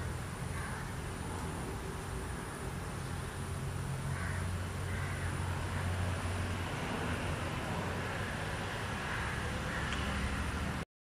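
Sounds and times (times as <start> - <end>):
even hiss: 0.0 - 10.8.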